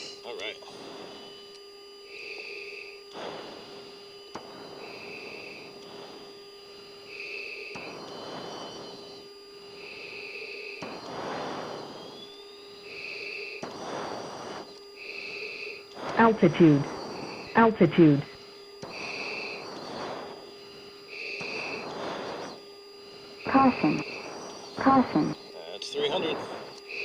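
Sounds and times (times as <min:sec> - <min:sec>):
steady hum: 0:00.0 - 0:27.0
breaths hissing in microphone: 0:02.1 - 0:25.5, 0:26.1 - 0:27.0.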